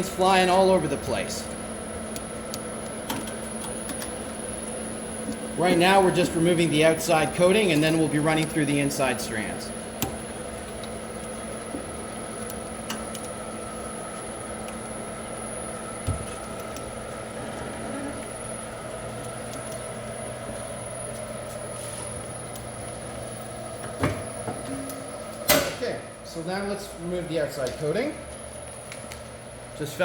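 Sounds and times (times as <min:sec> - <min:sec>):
wire stripping machine humming: 0:00.0 - 0:26.2.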